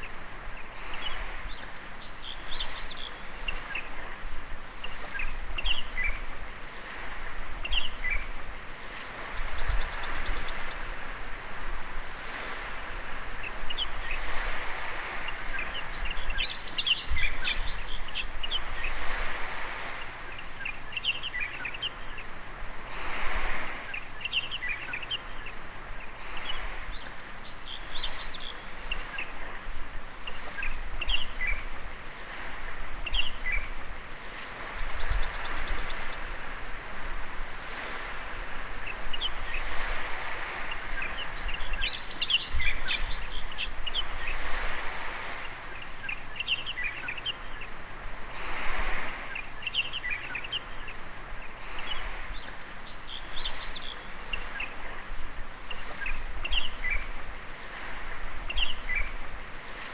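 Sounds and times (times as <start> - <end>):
birds chirping: 0.0 - 11.5, 12.2 - 22.4, 23.5 - 59.9
small waves washing in: 0.0 - 59.9.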